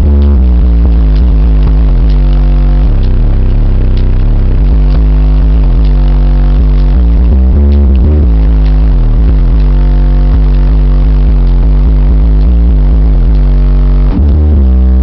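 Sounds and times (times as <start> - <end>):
loud bass-heavy music in car: 0.0 - 15.0.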